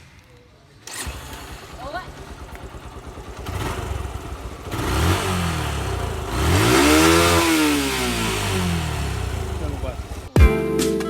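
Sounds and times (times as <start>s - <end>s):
vehicle engine revving: 0.8s - 10.4s.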